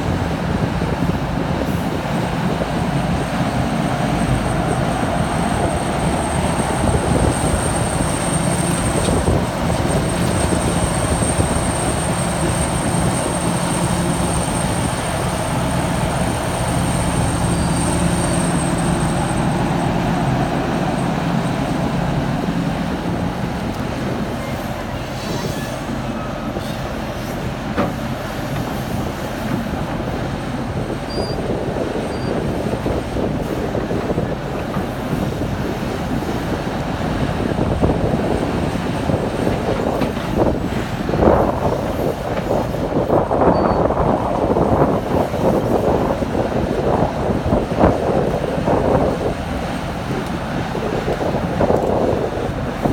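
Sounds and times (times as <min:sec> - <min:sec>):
excavator diesel engine drone: 0:00.0 - 0:52.9.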